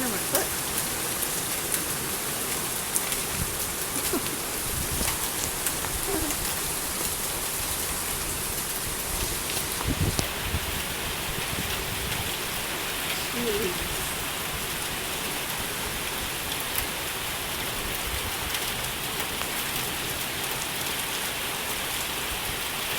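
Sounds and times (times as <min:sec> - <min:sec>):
hailstones ticking: 0:00.0 - 0:22.2
rain and hail falling: 0:00.0 - 0:22.9.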